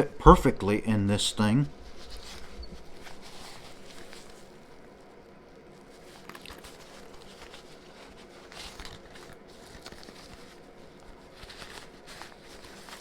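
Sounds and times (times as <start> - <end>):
rustling of nylon tool pouch: 1.7 - 13.0.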